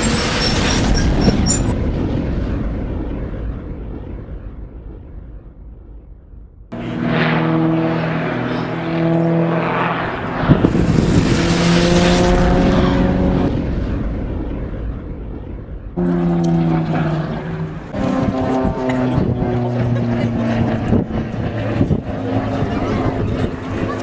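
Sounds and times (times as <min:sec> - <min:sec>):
aircraft engine drone: 0:00.0 - 0:03.5, 0:06.7 - 0:24.0.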